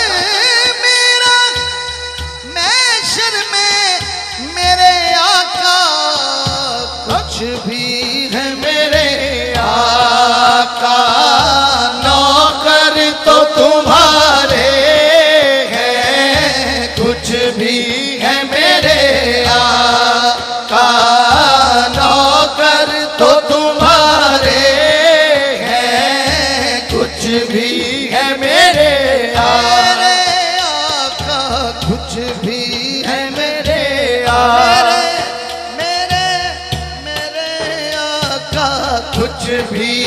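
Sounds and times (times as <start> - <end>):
harmonium melody: 0.0 - 40.0
hand drum beat: 6.4 - 40.0.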